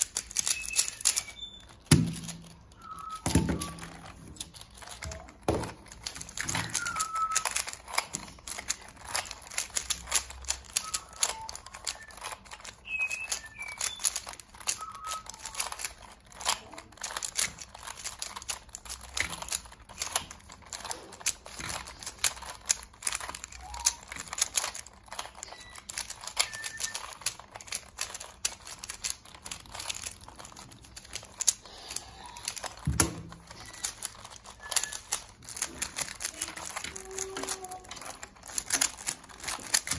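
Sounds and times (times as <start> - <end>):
puzzle cube plastic clicks: 0.0 - 39.9.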